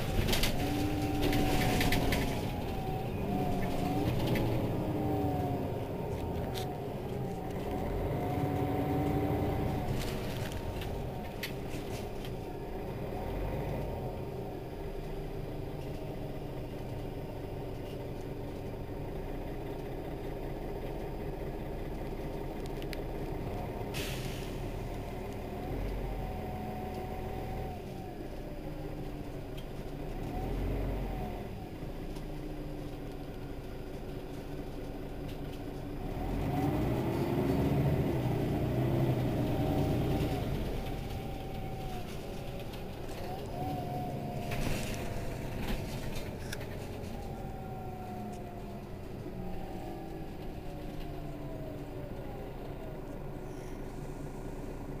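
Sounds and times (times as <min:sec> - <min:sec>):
bus engine revving: 0:00.0 - 0:18.0, 0:18.6 - 0:32.4, 0:35.8 - 0:55.0.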